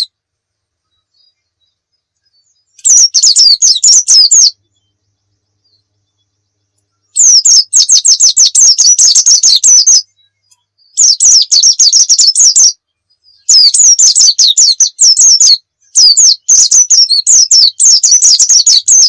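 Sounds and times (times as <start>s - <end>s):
bird high twittering song: 0.0s - 19.0s.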